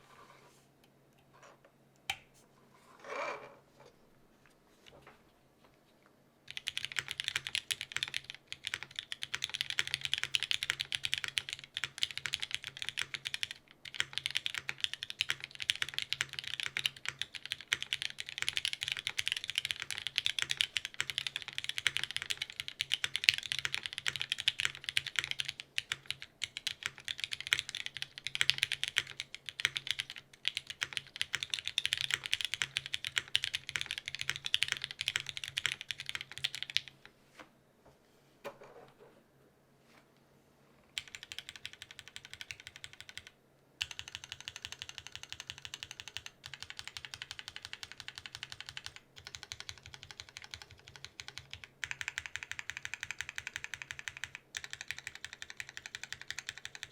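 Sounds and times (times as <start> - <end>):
fast typing on mechanical keyboard: 6.5 - 37.0, 41.0 - 56.9.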